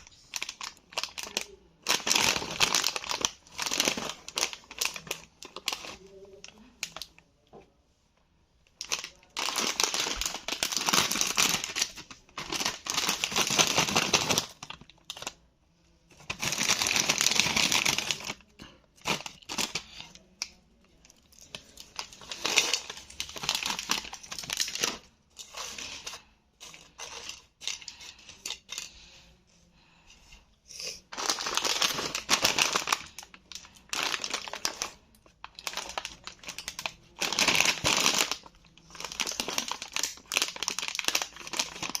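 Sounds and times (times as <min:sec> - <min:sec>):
chip packet crinkling: 0:00.0 - 0:07.1, 0:08.8 - 0:15.4, 0:16.1 - 0:20.3, 0:21.0 - 0:28.9, 0:31.1 - 0:42.0.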